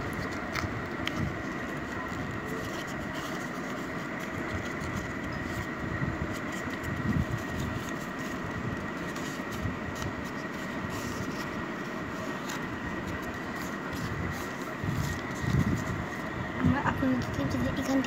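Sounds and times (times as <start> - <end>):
high constant whine: 0.0 - 18.0
paper being creased: 0.0 - 18.0
steady background hum: 0.0 - 18.0.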